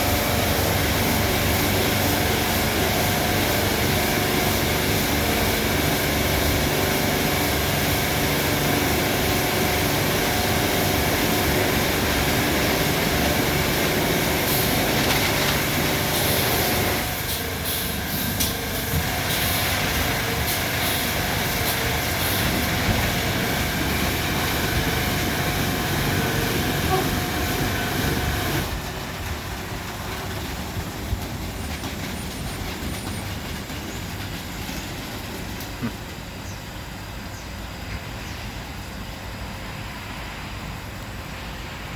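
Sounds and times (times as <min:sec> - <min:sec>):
car wash motor hum: 0:00.0 - 0:41.9.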